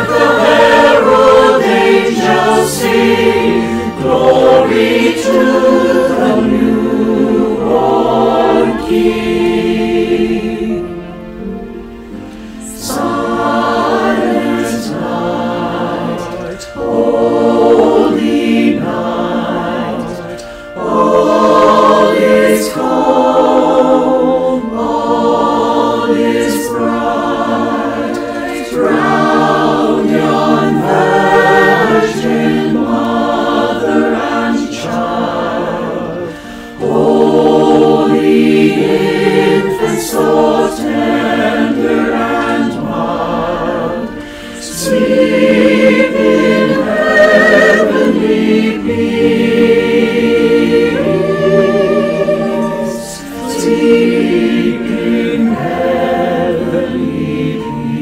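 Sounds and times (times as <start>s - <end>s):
mixed choir singing a carol: 0.0s - 58.0s.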